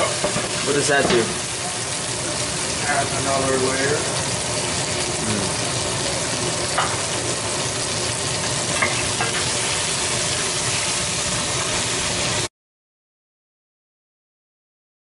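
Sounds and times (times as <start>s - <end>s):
shrimp heads sizzling in oil: 0.0s - 12.5s.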